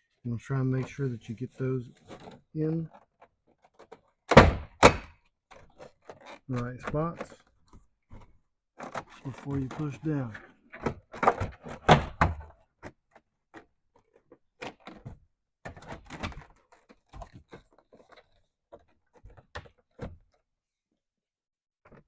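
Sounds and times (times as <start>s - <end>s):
plastic door panel knocking and scraping: 2.0s - 20.4s.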